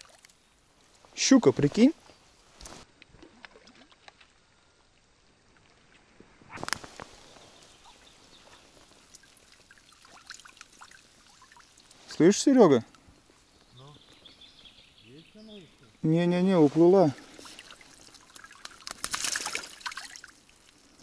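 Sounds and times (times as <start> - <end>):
water trickling and dripping: 0.0 - 1.6, 3.0 - 14.4, 15.0 - 21.0.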